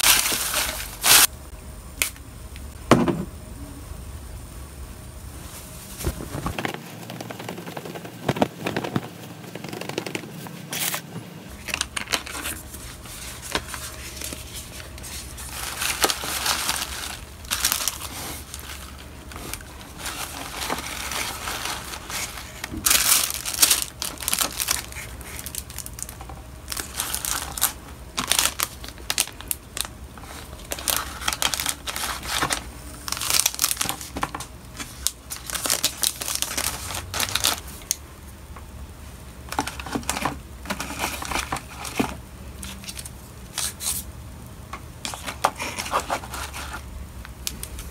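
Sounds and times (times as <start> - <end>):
packaging rustling and crinkling: 0.0 - 1.3, 5.4 - 38.0, 39.5 - 44.1, 45.0 - 47.9.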